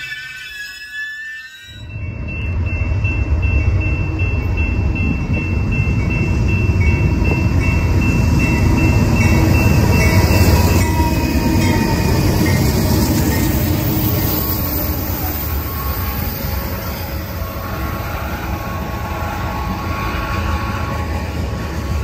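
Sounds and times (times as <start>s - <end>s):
freight train rumbling past: 1.8s - 22.0s.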